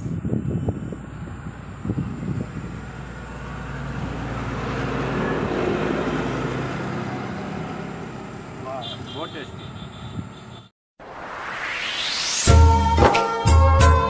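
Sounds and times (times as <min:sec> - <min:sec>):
vehicle passing by: 0:00.5 - 0:12.5.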